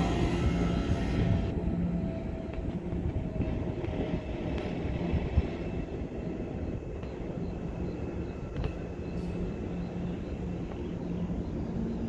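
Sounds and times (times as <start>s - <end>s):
electric train equipment humming: 0.0s - 12.0s.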